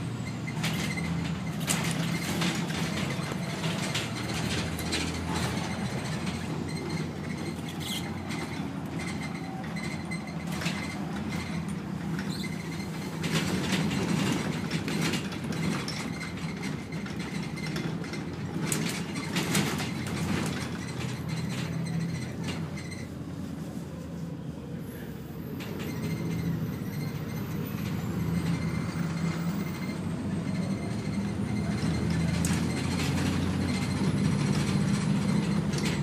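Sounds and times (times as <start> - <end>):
bus diesel engine droning: 0.0 - 36.0.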